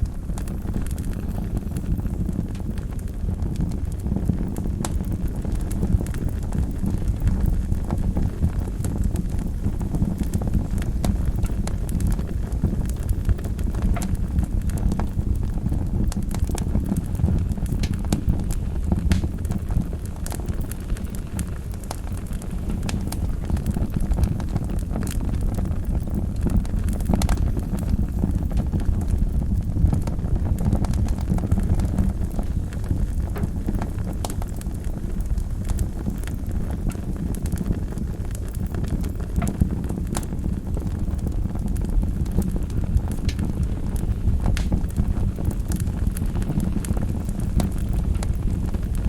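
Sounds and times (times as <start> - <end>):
fire crackling and popping: 0.0 - 49.0
fire rumbling: 0.0 - 49.0.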